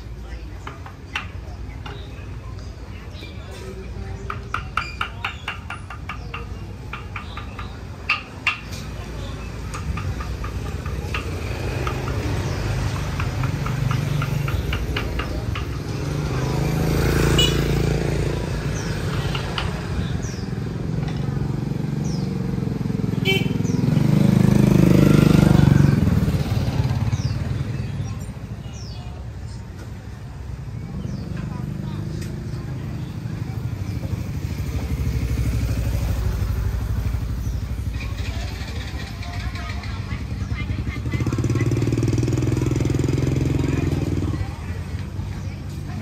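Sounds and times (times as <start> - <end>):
motorbikes passing: 0.0 - 46.0
scattered voices: 0.0 - 46.0.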